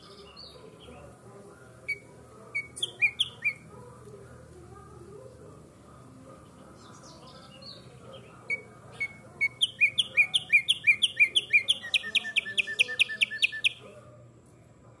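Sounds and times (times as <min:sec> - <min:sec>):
sparrow singing: 0:00.0 - 0:04.1, 0:05.9 - 0:14.0.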